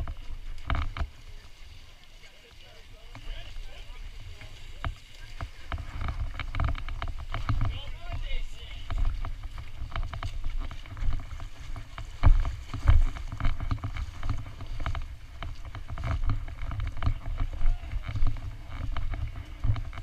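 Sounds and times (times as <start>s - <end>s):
low rumble on microphone: 0.0s - 20.0s
splashing through muddy water: 0.0s - 20.0s.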